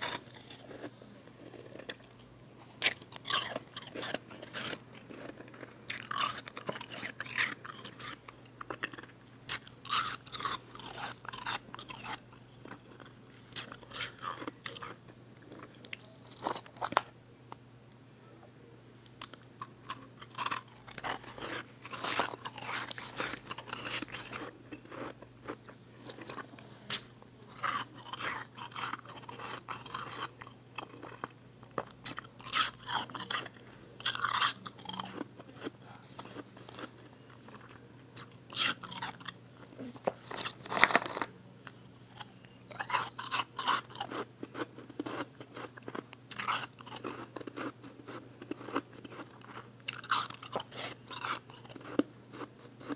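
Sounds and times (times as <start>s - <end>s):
person chewing crunchy ice: 0.0s - 17.0s, 19.2s - 52.9s.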